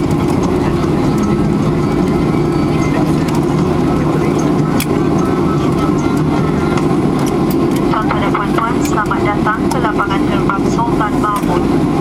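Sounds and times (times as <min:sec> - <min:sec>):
jet engines running at low power: 0:00.0 - 0:12.0.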